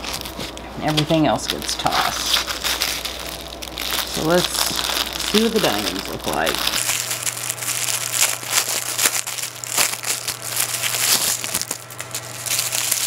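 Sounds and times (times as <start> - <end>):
foil and plastic bags crinkling: 0.0 - 13.0.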